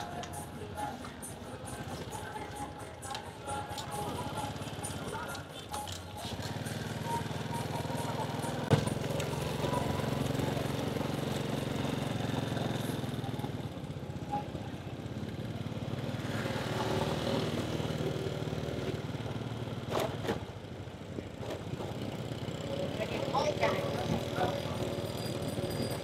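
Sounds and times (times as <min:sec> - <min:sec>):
small motorcycle engine running: 0:00.0 - 0:26.0
street traffic noise: 0:00.0 - 0:26.0.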